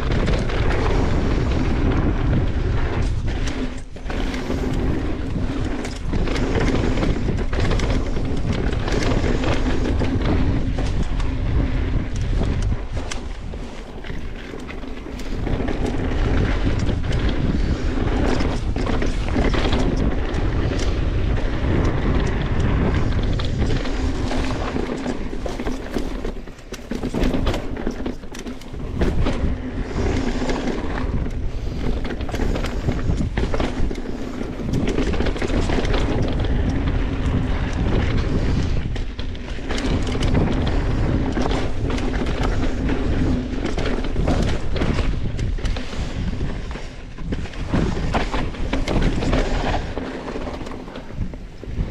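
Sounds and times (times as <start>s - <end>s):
bike rattles and knocks: 0.0s - 51.9s
bike tyres rolling on dirt: 0.0s - 51.9s
wind buffeting microphone: 0.0s - 51.9s.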